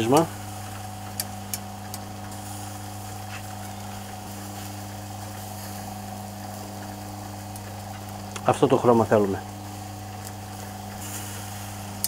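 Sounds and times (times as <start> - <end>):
kebabs sizzling on a grill: 0.0 - 12.0
steady low hum: 0.0 - 12.0.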